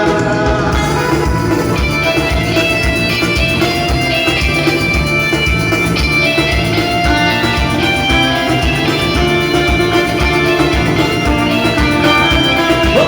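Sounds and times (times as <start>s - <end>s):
live band with guitar: 0.0s - 13.0s.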